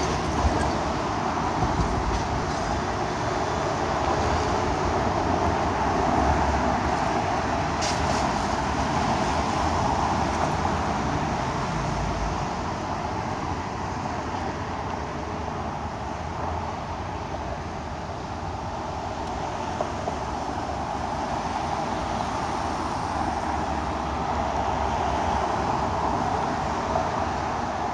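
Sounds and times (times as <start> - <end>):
tyre and road noise of traffic: 0.0 - 27.9.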